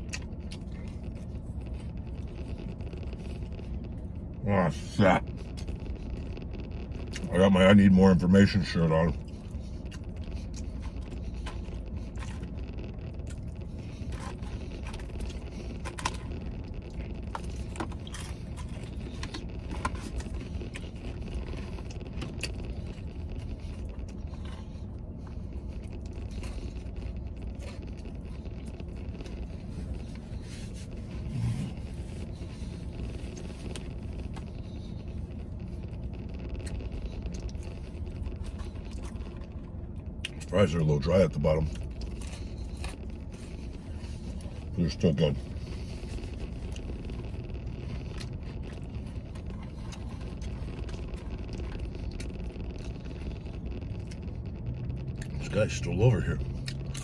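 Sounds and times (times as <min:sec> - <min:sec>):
vehicle cabin rumble: 0:00.0 - 0:57.0.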